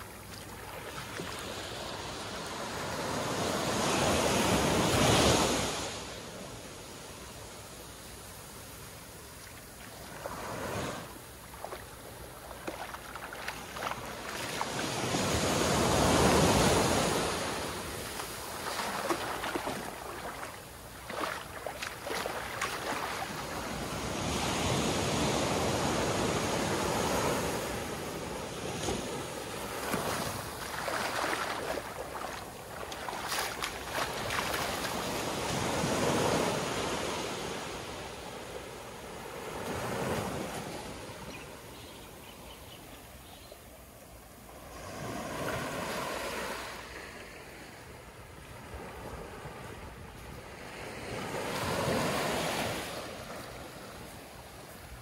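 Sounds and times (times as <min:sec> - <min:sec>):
small waves washing on sand: 0:00.0 - 0:42.2, 0:43.9 - 0:55.0.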